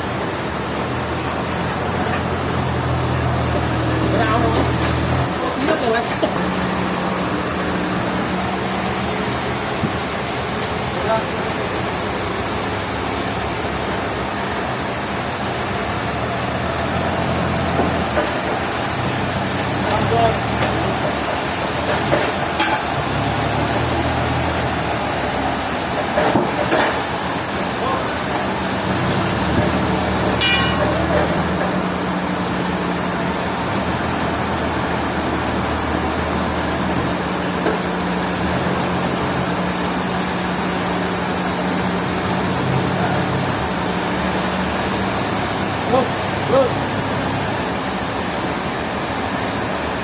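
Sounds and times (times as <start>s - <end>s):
sawmill machinery engine running: 0.0s - 50.0s.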